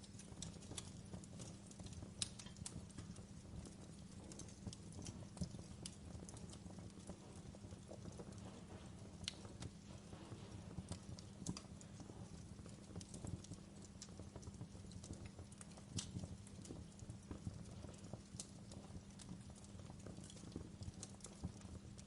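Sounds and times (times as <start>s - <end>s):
steady low hum: 0.0s - 22.0s
wood fire crackling: 0.0s - 22.0s.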